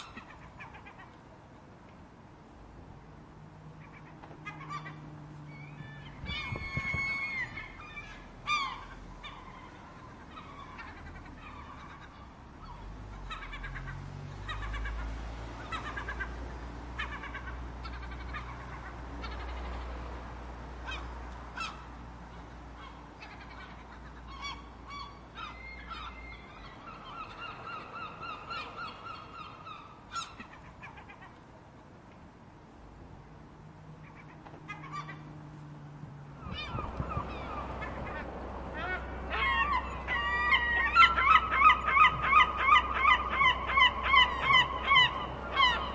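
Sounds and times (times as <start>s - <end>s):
seagulls calling: 0.0s - 1.2s, 3.7s - 20.1s, 20.8s - 31.5s, 34.0s - 35.4s, 36.3s - 45.9s.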